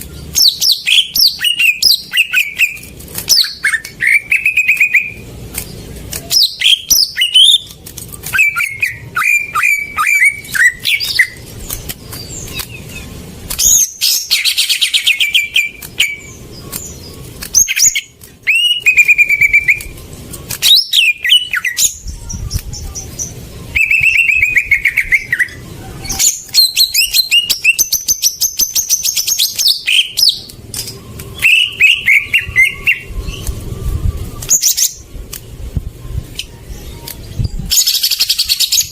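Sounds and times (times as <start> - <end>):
bird song whistles and trills: 0.0 - 35.1, 35.8 - 38.9.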